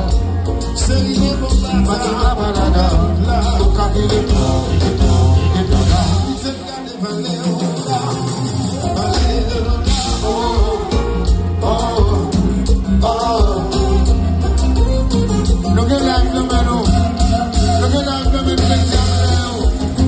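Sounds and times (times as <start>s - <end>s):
live band playing: 0.0s - 20.0s
man singing: 0.0s - 20.0s.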